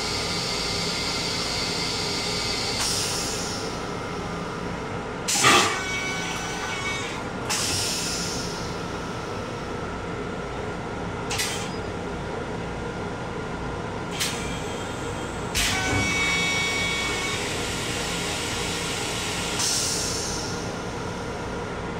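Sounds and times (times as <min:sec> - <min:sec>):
electric railcar running noise: 0:00.0 - 0:21.9.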